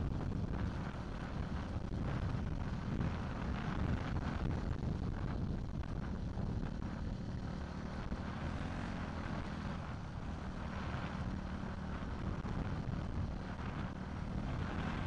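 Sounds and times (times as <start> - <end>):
dirt bike engines: 0.0 - 15.0
wind rumble on microphone: 0.0 - 15.0.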